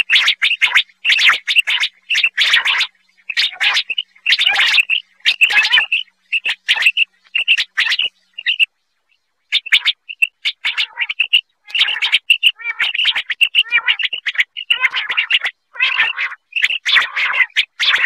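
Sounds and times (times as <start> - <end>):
quail calling: 0.0 - 8.7, 9.5 - 18.0.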